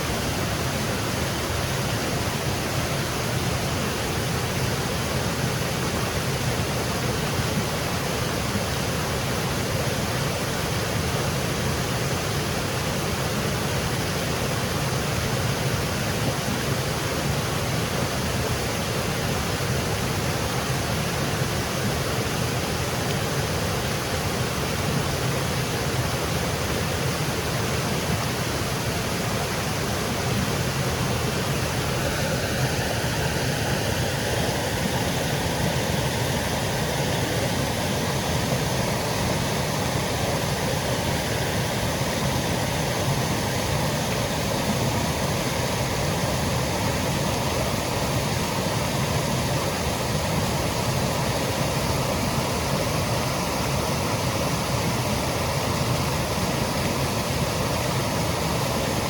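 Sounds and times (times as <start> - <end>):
water cascading over rocks: 0.0 - 59.0.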